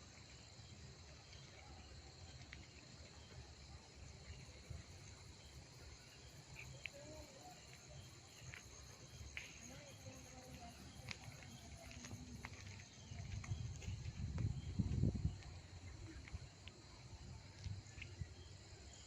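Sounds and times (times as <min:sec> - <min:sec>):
insects chirring: 0:02.1 - 0:19.0.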